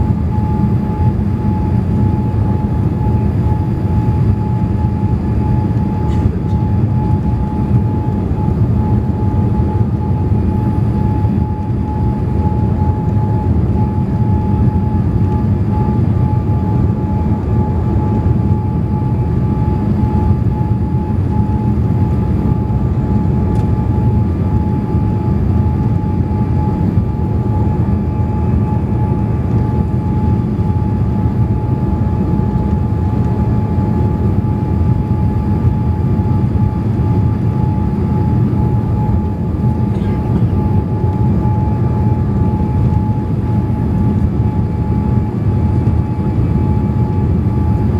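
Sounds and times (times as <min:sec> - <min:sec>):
airplane cabin rumble: 0:00.0 - 0:47.9.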